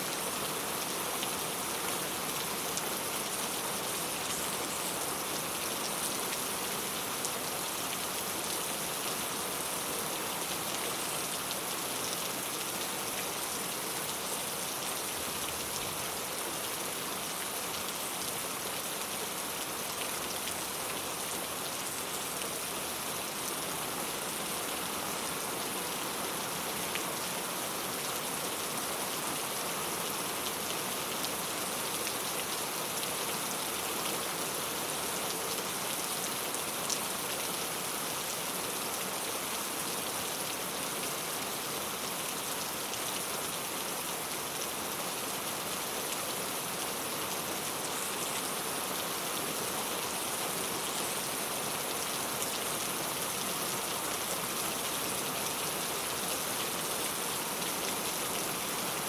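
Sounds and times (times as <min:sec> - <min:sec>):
rain on a tile roof: 0:00.0 - 0:59.0.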